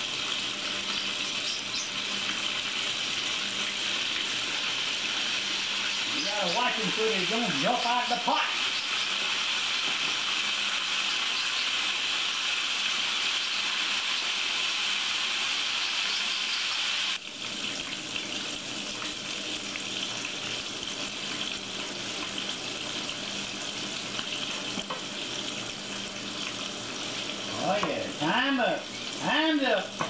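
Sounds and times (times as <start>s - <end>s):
deep frying sizzle and bubbling: 0.0s - 30.0s.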